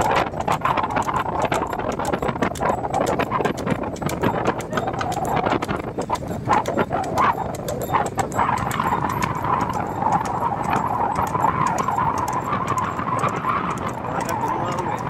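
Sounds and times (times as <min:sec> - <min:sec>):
hooves clip-clopping on asphalt: 0:00.0 - 0:15.0.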